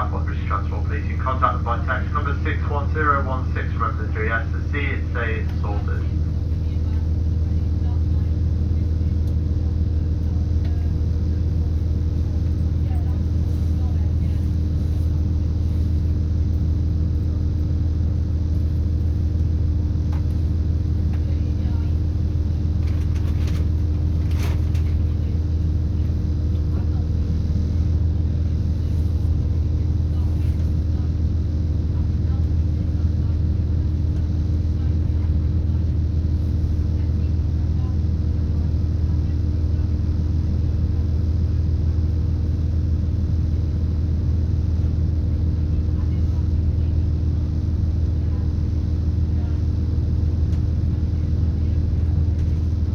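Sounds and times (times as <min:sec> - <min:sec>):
steady hum: 0:00.0 - 0:52.9
train engine low rumble: 0:00.0 - 0:52.9.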